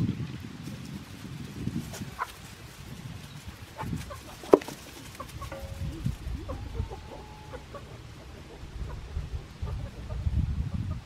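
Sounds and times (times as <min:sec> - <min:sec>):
chickens clucking: 0:01.6 - 0:11.0.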